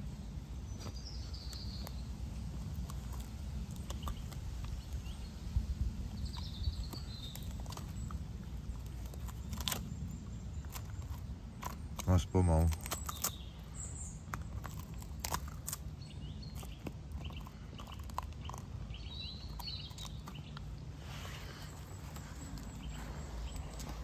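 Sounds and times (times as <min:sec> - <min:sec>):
birds chirping faintly: 0:00.0 - 0:24.0
low outdoor rumble: 0:00.0 - 0:24.0.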